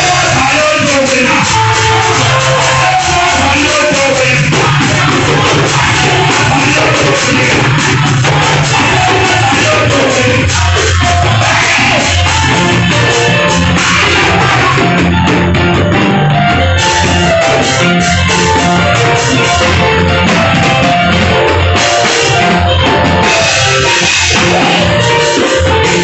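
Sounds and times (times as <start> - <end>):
church band playing praise music: 0.0 - 26.0
drum kit steady beat: 0.0 - 26.0
guitar: 0.0 - 26.0.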